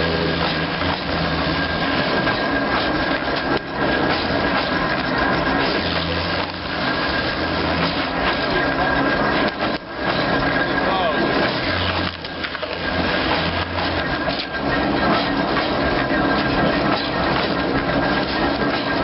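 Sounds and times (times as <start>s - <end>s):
mill machinery noise: 0.0s - 19.0s
wood splintering and crackling: 0.0s - 19.0s.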